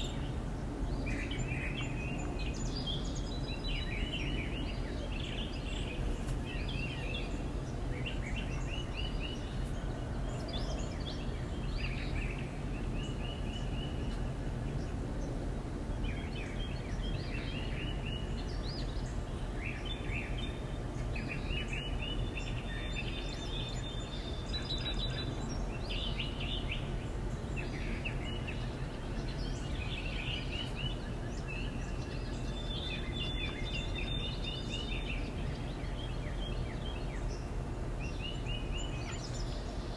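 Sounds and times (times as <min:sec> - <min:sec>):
songbirds chirping and calling: 0:00.0 - 0:39.9.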